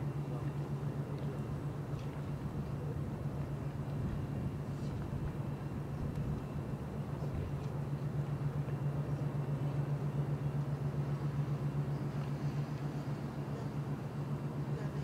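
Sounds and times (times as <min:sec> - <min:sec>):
low engine drone with pulsing beat: 0:00.0 - 0:15.0.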